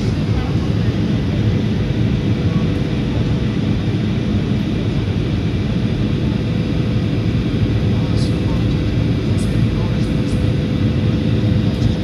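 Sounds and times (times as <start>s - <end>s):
faint steady hum: 0.0s - 12.0s
jet airliner cabin rumble: 0.0s - 12.0s.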